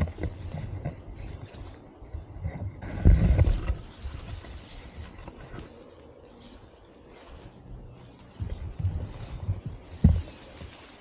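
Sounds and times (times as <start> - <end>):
rustling of tall grass: 0.0 - 11.0
wind rumble on microphone: 0.0 - 11.0.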